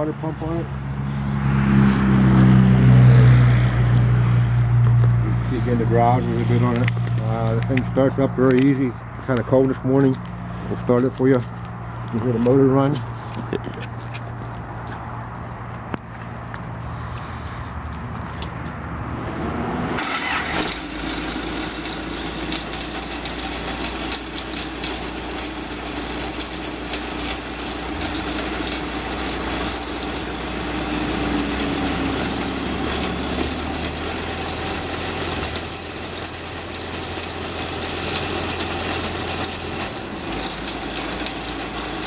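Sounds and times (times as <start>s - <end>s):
diesel engine starting and running: 0.0s - 42.0s.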